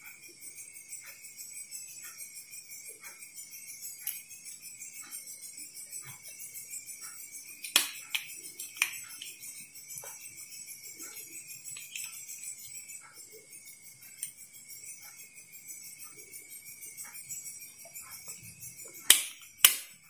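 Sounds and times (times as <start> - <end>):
high-pitched chirring drone: 0.0 - 20.0.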